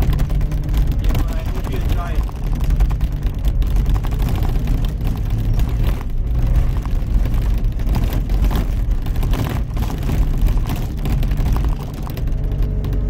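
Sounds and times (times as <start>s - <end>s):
diesel engine running: 0.0s - 13.0s
irregular clatter: 0.0s - 13.0s.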